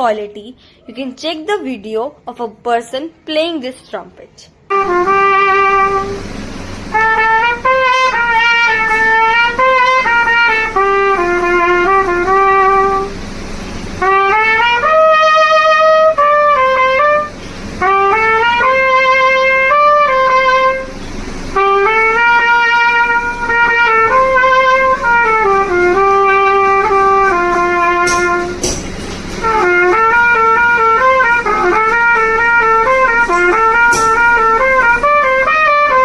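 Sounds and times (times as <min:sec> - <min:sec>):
trumpet solo melody: 0:04.7 - 0:36.0.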